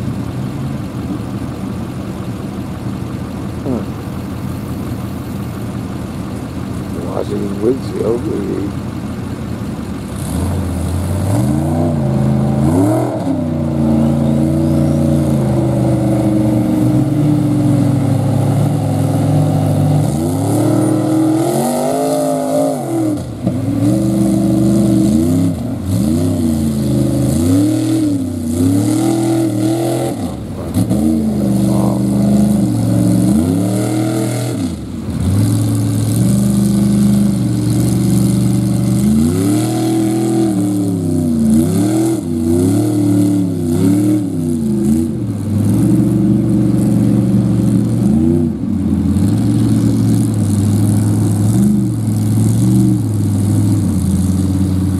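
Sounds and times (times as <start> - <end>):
truck engine revving: 3.5 - 4.4, 6.9 - 8.9, 9.6 - 54.9.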